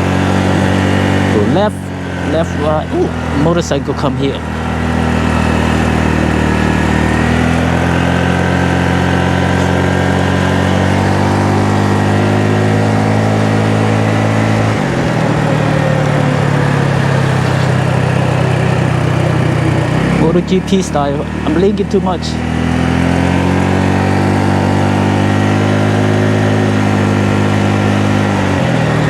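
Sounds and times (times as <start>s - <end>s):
small single-cylinder engine running: 0.0s - 29.0s.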